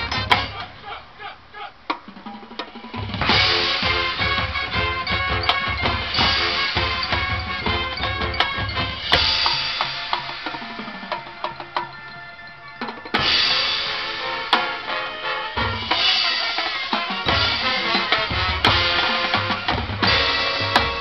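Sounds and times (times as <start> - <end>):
snare and bass drums: 0.0 - 0.8, 1.9 - 12.2, 12.8 - 21.0
marching band playing: 0.0 - 1.2, 2.0 - 21.0.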